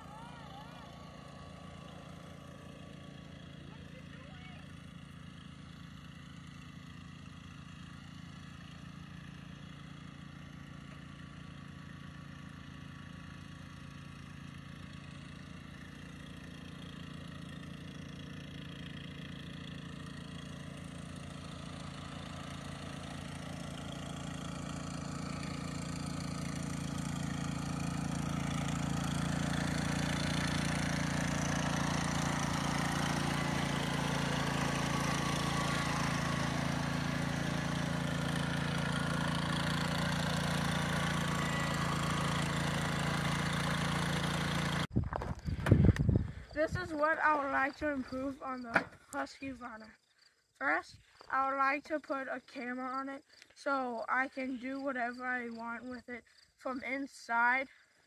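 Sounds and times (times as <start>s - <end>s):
lawn tractor engine running: 0.0s - 49.8s.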